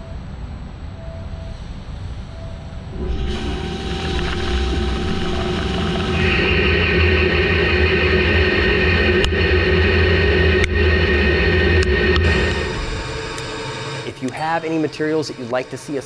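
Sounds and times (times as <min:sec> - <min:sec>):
lathe cutting metal: 0:03.0 - 0:16.0.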